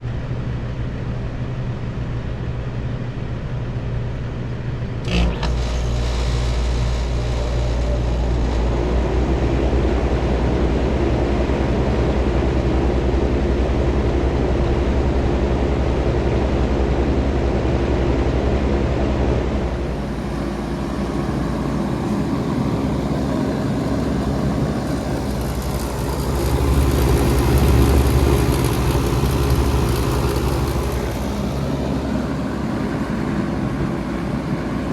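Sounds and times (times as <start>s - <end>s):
heat pump humming: 4.2s - 34.9s.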